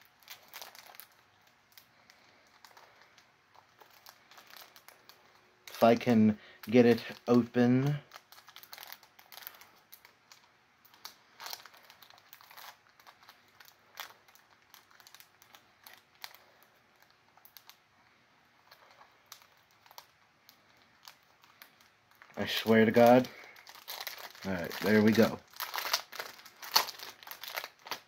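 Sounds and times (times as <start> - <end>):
packaging crinkling and clicking: 0.0 - 17.8, 18.6 - 28.0.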